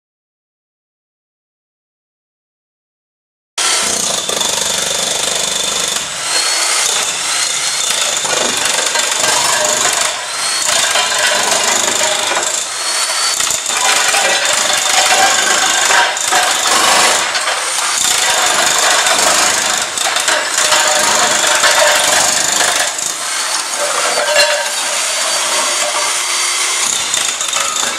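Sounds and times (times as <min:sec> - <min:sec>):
demolition hammer stripping tiles: 0:03.7 - 0:27.9.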